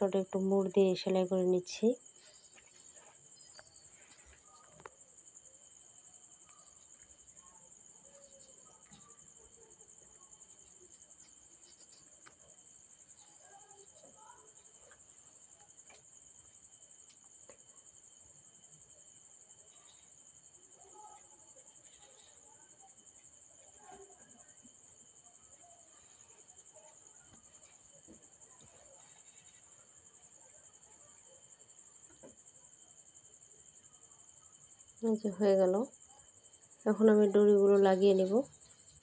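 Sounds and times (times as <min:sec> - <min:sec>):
cricket trilling: 0:00.0 - 0:39.0.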